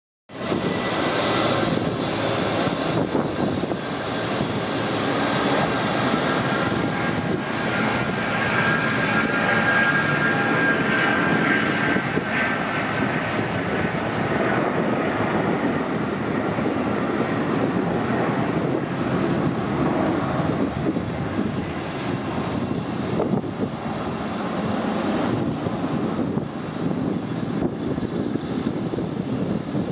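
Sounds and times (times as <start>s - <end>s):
jet engines at takeoff: 0.3s - 29.9s.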